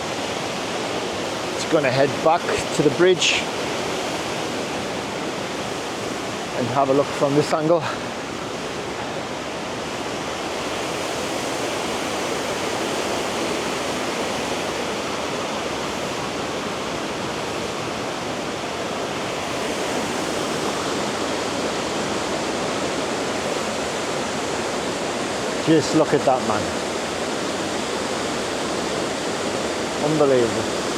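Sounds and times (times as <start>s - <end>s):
water rushing over waterfall: 0.0s - 30.9s.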